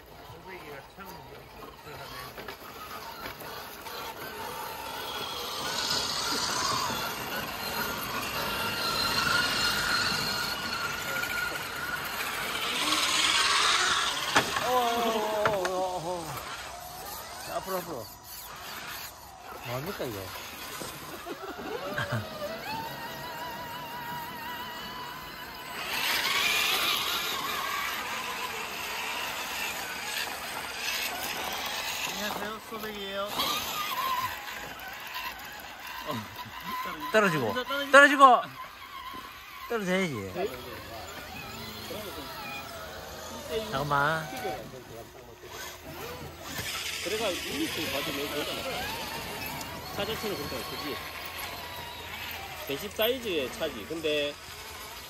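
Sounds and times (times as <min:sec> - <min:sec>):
electric motor and gears whining: 0:00.0 - 0:55.0.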